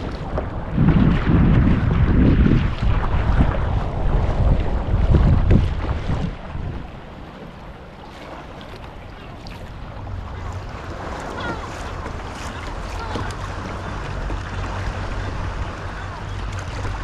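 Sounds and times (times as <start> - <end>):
water lapping against kayak hull: 0.0 - 17.0
wind on microphone: 0.0 - 17.0.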